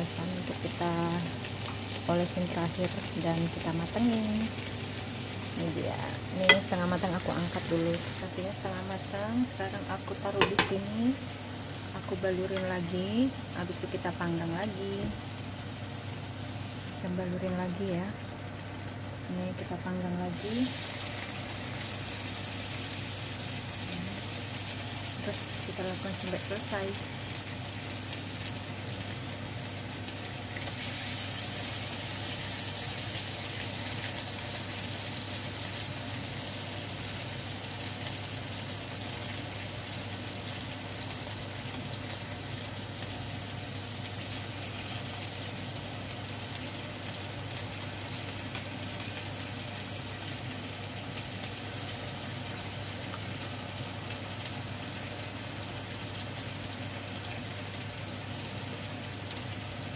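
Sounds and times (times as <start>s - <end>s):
steady low hum: 0.0s - 55.7s
skewers sizzling in frying pan: 0.0s - 59.9s.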